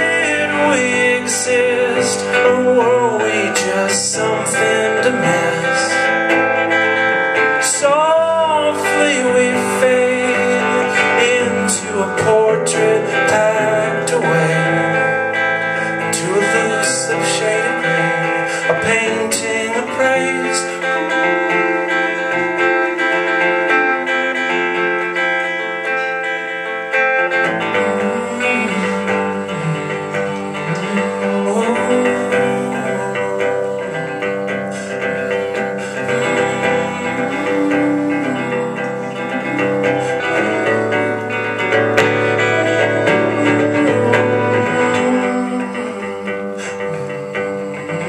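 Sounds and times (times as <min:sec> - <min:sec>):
guitar playing chords and notes: 0:00.0 - 0:48.0.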